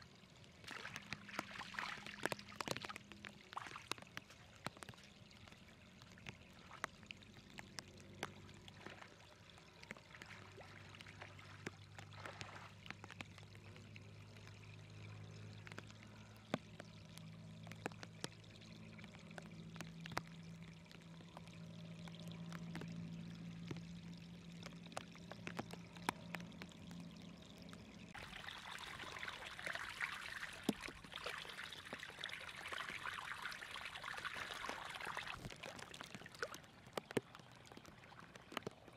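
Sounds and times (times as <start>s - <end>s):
floodwater running and splashing: 0.0s - 38.9s
small splashes: 0.0s - 38.9s.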